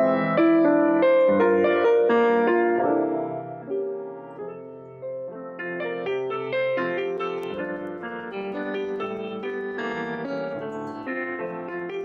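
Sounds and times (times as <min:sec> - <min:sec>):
grand piano playing chords: 0:00.0 - 0:12.0.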